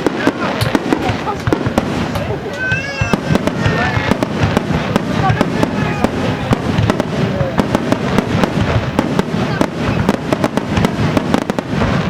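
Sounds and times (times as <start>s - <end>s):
fireworks sharp bangs: 0.0s - 12.0s
low rumble of explosions: 0.0s - 12.0s.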